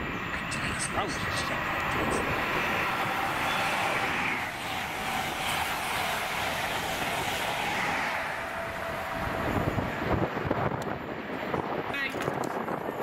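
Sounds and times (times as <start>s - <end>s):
diesel train passing at speed: 0.0s - 13.0s.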